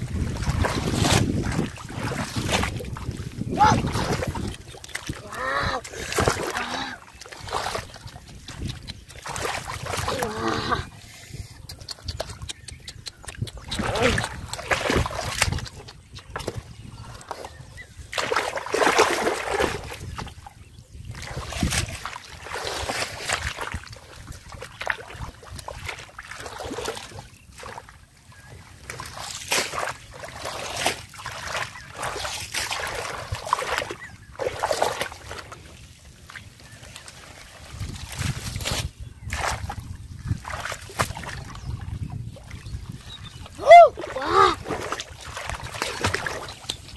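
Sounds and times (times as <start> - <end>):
hands splashing in muddy water: 0.0 - 20.5, 21.1 - 46.9.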